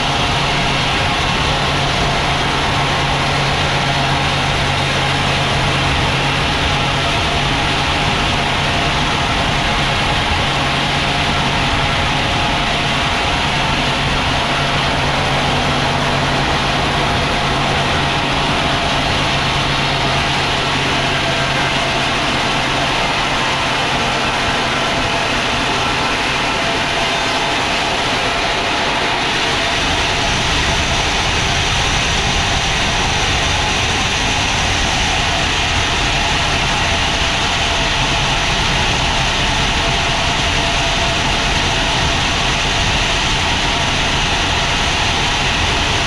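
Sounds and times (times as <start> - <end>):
sawmill machinery humming: 0.0 - 46.0.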